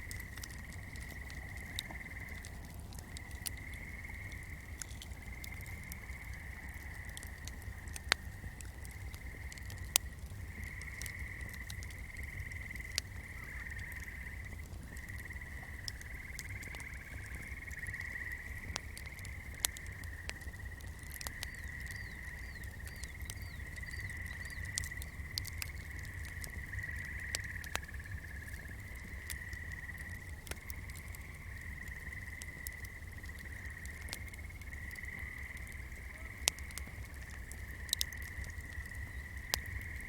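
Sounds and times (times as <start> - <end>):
frogs calling: 0.0 - 40.0.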